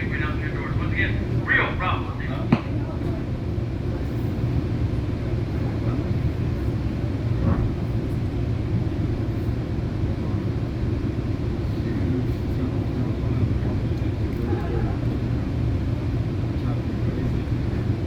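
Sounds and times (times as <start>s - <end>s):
train coach rumble: 0.0s - 18.0s.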